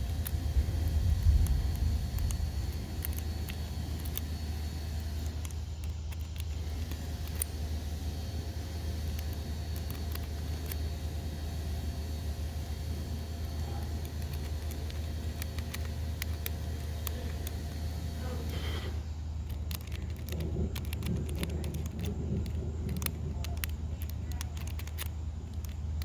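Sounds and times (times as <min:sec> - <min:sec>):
lock pins clicking: 0:00.0 - 0:26.0
steady low hum: 0:00.0 - 0:26.0.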